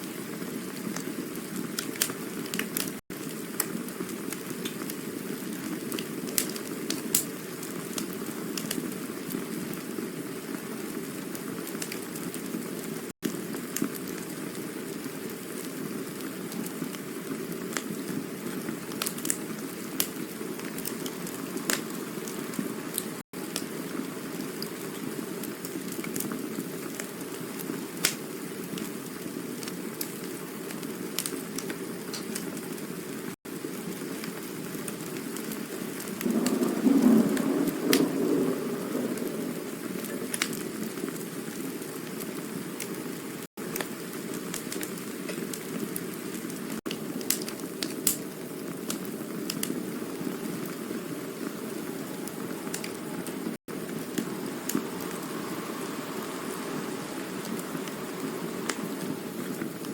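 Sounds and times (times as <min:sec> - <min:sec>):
rush of fire flames: 0:00.0 - 0:32.8, 0:33.4 - 0:59.9
fire crackles and pops: 0:00.0 - 0:59.9.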